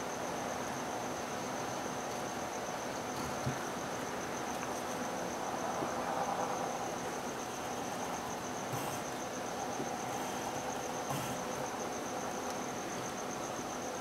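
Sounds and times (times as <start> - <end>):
crickets trilling: 0.0 - 14.0
low steady hum and hiss: 0.0 - 14.0.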